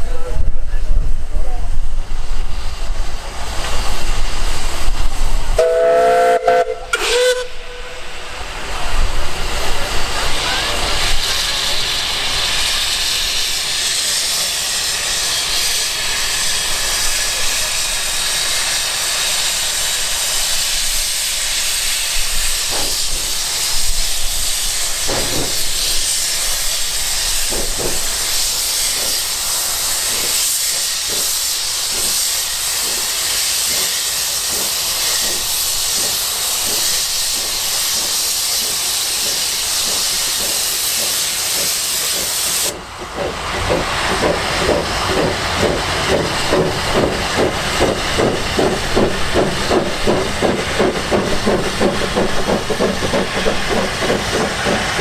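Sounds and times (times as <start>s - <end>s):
steam locomotive exhaust chuffs: 2.1s - 55.0s
steam hissing from drain cocks: 10.9s - 55.0s.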